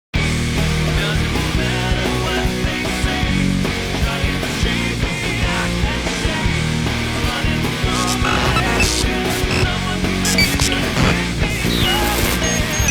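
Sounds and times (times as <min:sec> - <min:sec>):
instrumental rock music: 0:00.2 - 0:12.9.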